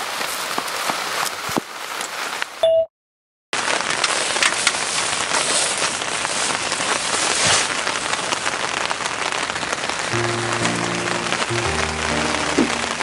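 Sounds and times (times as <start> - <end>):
heavy rain on tent fabric: 0.0 - 2.6, 3.6 - 13.0.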